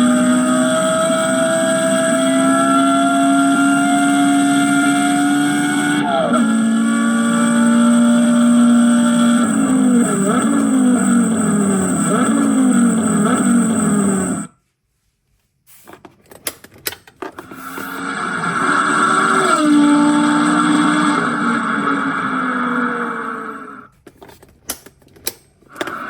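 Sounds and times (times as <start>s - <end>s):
recorded sports car engine revving: 0.0s - 14.5s, 17.4s - 23.9s.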